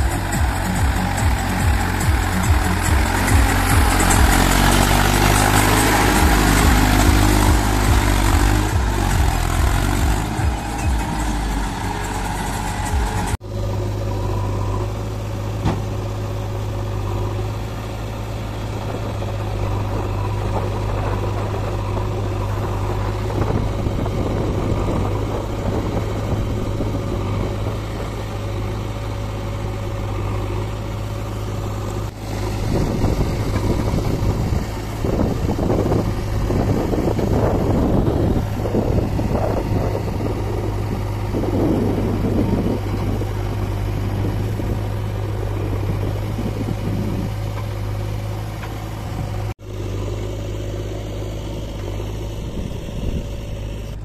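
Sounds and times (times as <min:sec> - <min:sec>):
diesel tractor engines droning: 0:00.0 - 0:54.0.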